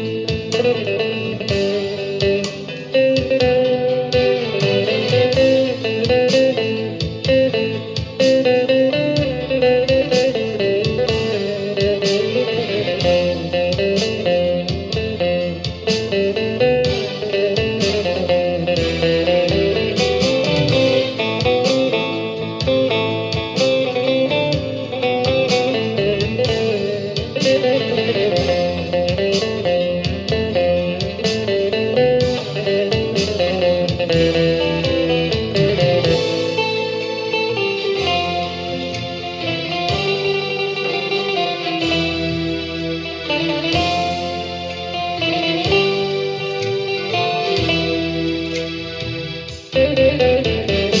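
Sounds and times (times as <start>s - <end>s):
guitar music with plucked notes: 0.0s - 51.0s.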